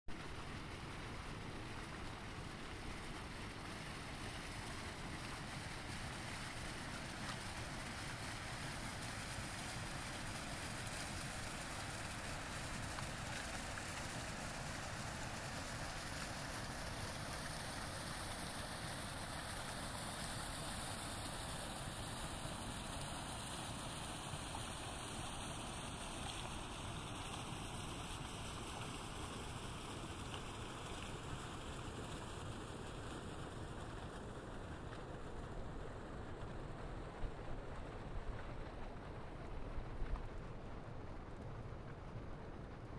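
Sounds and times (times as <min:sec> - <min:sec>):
running water in a brook: 0:00.1 - 0:42.9
stream rushing under ice: 0:00.2 - 0:42.9.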